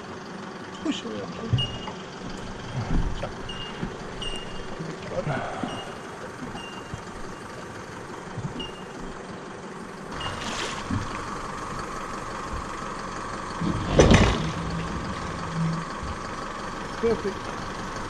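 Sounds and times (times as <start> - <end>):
engine hum: 0.0 - 18.0.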